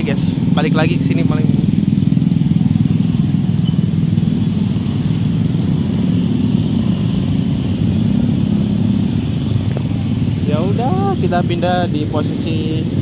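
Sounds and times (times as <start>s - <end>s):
motorcycle and scooter traffic drone: 0.0s - 13.0s.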